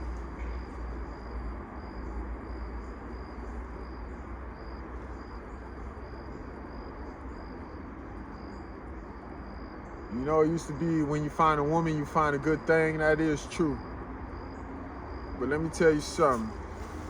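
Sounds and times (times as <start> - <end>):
insects chirping: 0.0 - 17.0
low steady rumble: 0.0 - 17.0.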